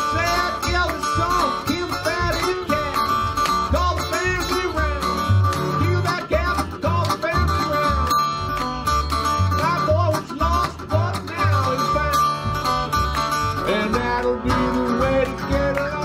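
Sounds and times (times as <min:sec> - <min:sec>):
resonator guitar with sliding notes: 0:00.0 - 0:16.0
washtub bass plucked: 0:00.0 - 0:16.0.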